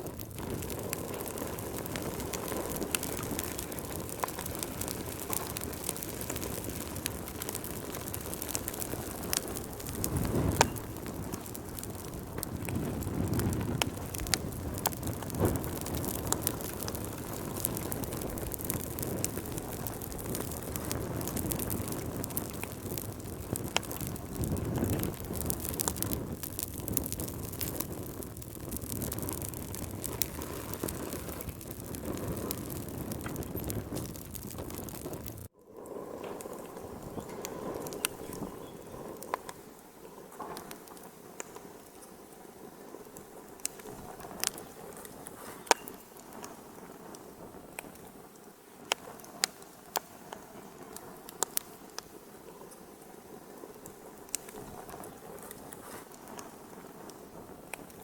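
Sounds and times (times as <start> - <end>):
fire crackling and popping: 0.0 - 58.0
low rush of flames: 0.0 - 58.0.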